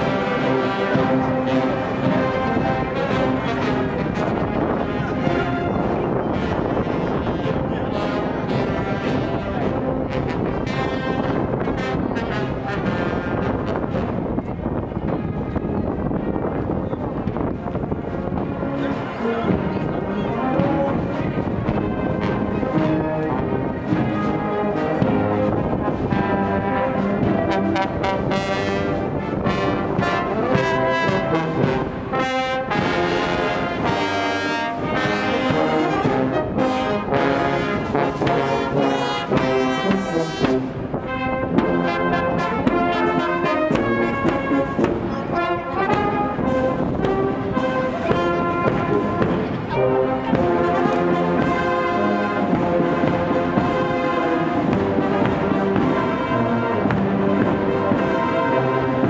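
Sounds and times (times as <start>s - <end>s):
marching brass band playing: 0.0s - 59.0s.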